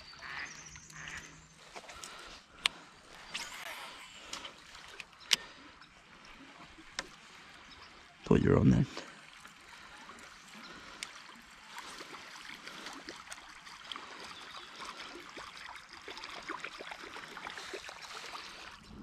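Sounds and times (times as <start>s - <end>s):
small ticks and splashes: 0.0s - 8.2s, 9.0s - 18.8s
river water trickling and gurgling: 0.0s - 19.0s.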